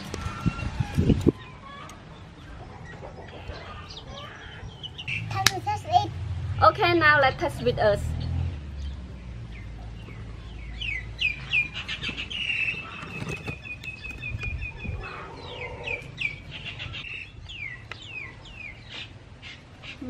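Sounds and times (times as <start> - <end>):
small birds chirping and trilling: 0.0 - 20.0.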